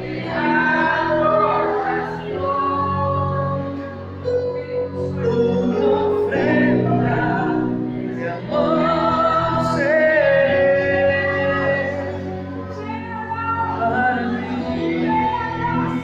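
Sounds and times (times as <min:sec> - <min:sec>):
person singing worship song: 0:00.0 - 0:16.0.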